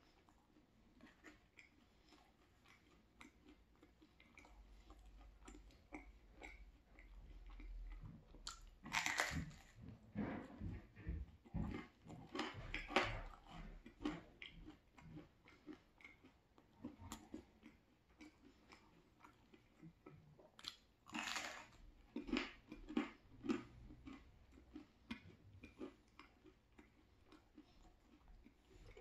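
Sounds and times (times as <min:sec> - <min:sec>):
chewing crispy pizza: 0:00.0 - 0:29.0.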